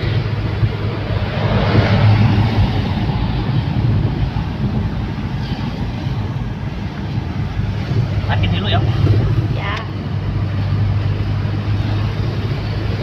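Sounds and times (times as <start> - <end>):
car engine cruising: 0.0 - 13.0
road noise: 0.0 - 13.0.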